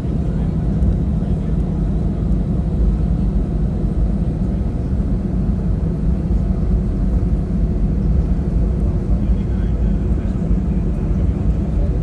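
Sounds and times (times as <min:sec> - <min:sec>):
jet engines in cabin: 0:00.0 - 0:12.0.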